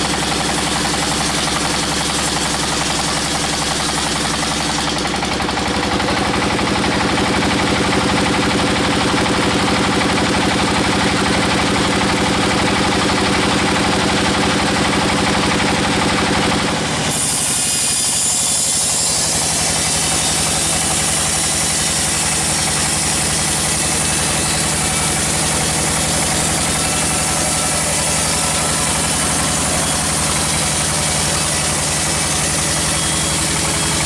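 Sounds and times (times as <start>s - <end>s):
engine running with fast beat: 0.0s - 17.1s, 20.1s - 34.0s.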